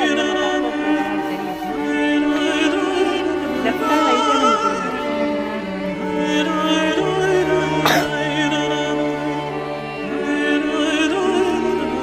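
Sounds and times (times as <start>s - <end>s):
music with sustained notes: 0.0s - 12.0s
person singing: 0.0s - 12.0s.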